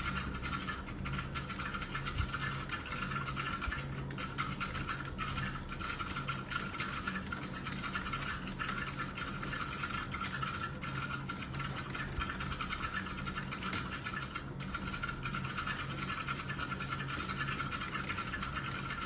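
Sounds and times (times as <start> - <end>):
faint hum: 0.0 - 19.0
fast keyboard typing: 0.0 - 19.0.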